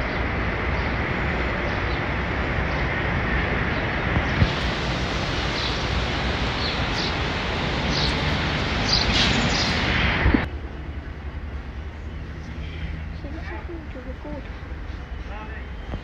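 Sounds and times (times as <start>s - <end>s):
birds chirping: 0.0s - 10.3s, 10.9s - 16.0s
traffic noise: 0.0s - 16.0s.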